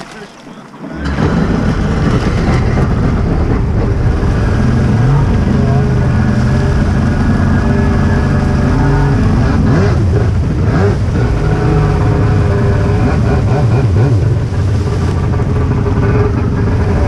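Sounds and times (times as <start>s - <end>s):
jet ski engine running: 0.0s - 17.0s
water rushing along hull: 0.0s - 17.0s.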